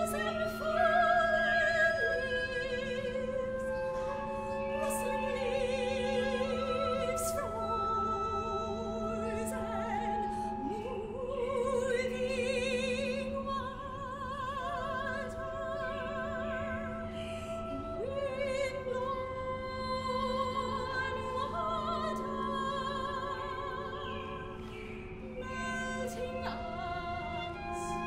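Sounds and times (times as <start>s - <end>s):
held wind instrument notes: 0.0s - 28.0s
soprano singing with vibrato: 0.0s - 28.0s.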